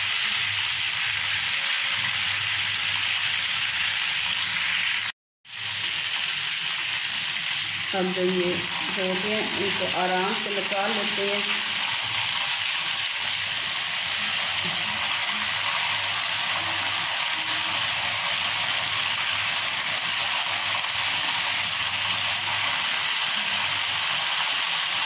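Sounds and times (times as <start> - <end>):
kababs sizzling in hot oil: 0.0 - 25.0.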